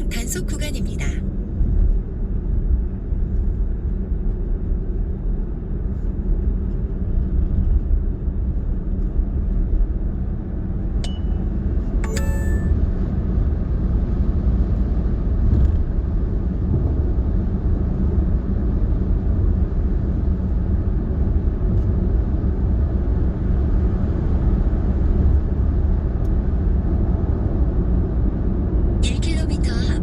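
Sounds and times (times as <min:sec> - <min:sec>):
road rumble and tyre noise: 0:00.0 - 0:12.0, 0:13.1 - 0:30.0.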